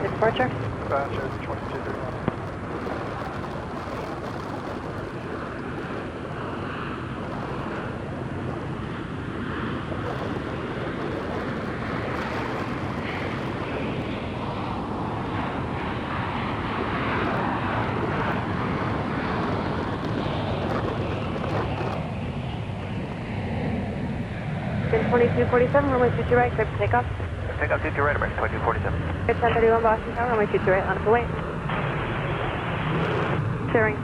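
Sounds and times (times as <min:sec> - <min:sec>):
jet engines roaring: 0:00.0 - 0:34.0
wind buffeting microphone: 0:00.0 - 0:34.0.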